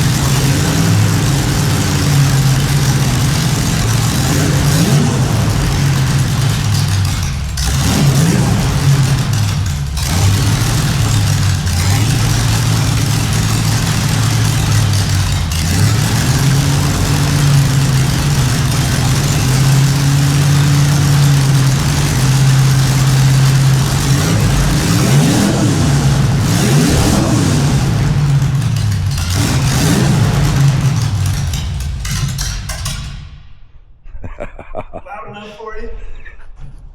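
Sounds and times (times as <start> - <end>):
car engine running and revving: 0.0 - 33.2.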